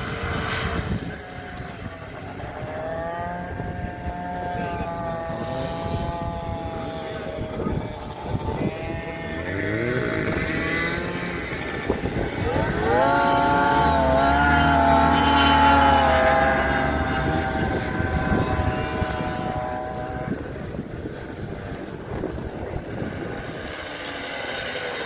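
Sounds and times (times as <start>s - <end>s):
motorboat engine revving: 0.0s - 25.0s.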